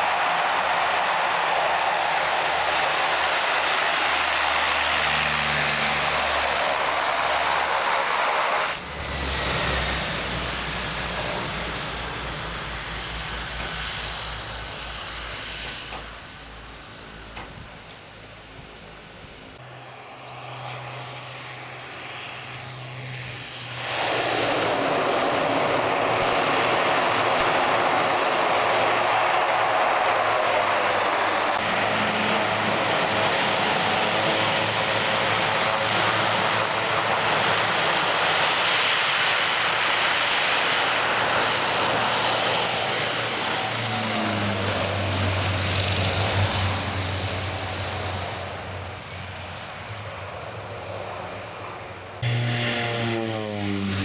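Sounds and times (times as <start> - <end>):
turboprop engines at full power: 0.0 - 54.0.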